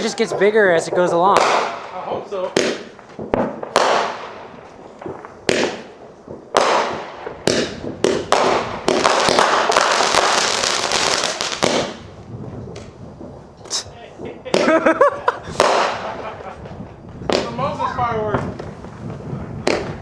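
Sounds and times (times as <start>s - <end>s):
fireworks bangs: 0.0s - 20.0s
rapid crackling fireworks: 0.0s - 20.0s.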